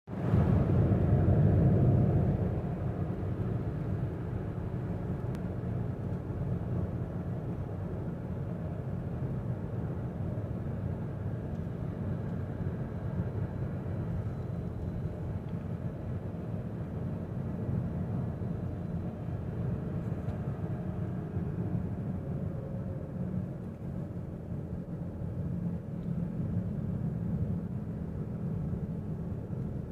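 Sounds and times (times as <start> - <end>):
road rumble: 0.1 - 29.9
low hum inside car: 0.2 - 29.9.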